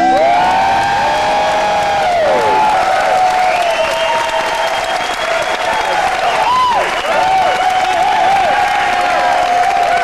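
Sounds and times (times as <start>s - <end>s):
audience applauding and whooping: 0.0s - 10.0s.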